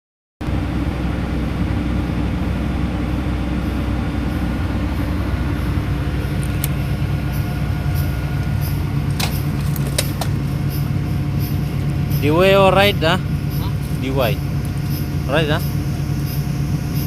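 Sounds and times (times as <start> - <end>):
engine humming steadily: 0.4 - 17.0.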